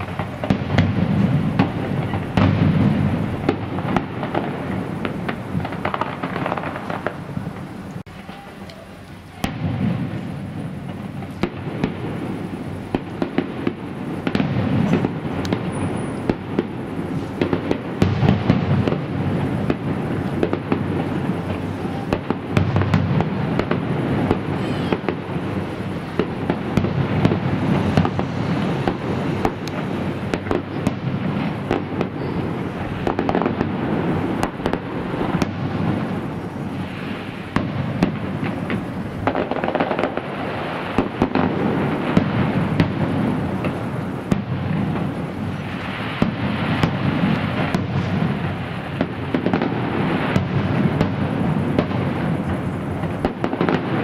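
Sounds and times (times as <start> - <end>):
heavy firework booms: 0.0 - 8.6, 9.3 - 54.0
fireworks bangs and crackles: 0.0 - 54.0.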